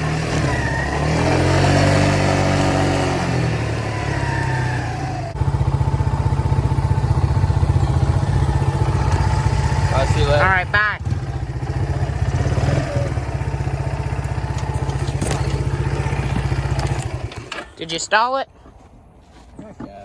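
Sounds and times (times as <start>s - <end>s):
four-wheeler engine revving: 0.0s - 18.0s.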